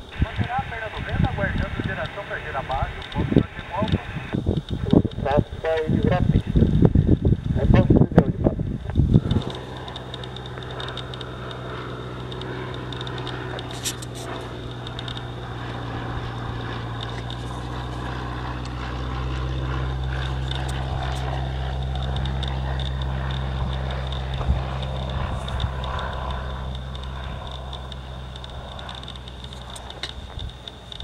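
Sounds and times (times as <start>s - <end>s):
propeller plane flying past: 0.0s - 31.0s.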